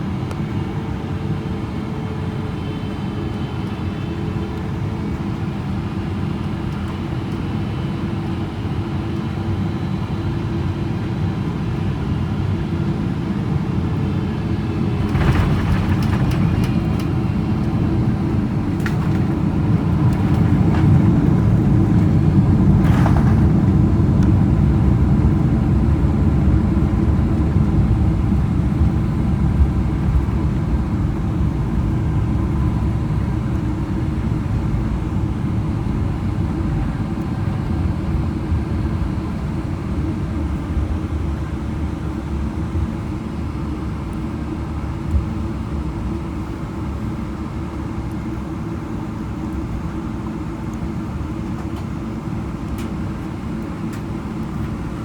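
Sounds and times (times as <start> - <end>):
aircraft engine and airflow rumble: 0.0 - 55.0.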